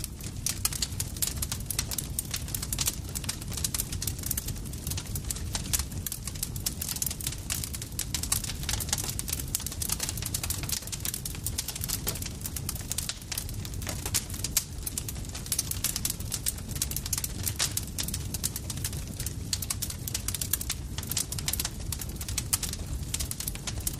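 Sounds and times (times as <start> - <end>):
burning wood snapping and popping: 0.0 - 23.9
flames rumbling: 0.0 - 23.9.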